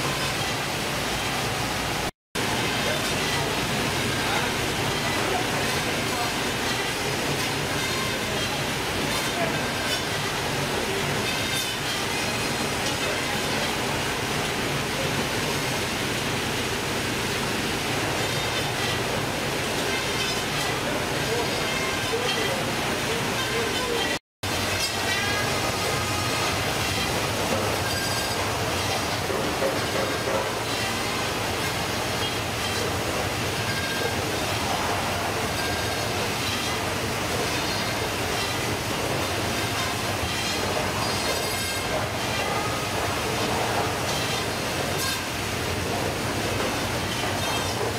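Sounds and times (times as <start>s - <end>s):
processing machine and conveyors: 0.0s - 47.9s.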